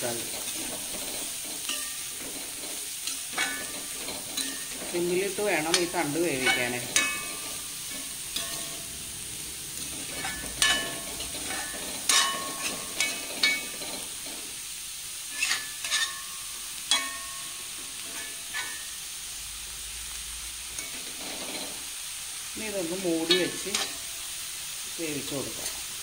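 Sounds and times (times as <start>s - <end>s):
metal spatula scraping pan: 0.0s - 19.1s, 20.8s - 21.9s, 22.6s - 24.2s
soft sizzle of frying: 0.0s - 26.0s.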